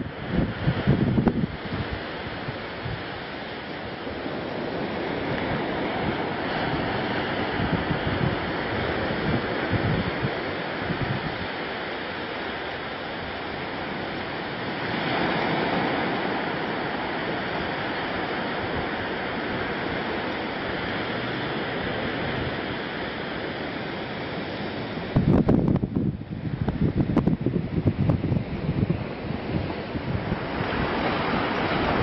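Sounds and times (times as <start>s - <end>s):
sea surf breaking on beach: 0.0s - 32.0s.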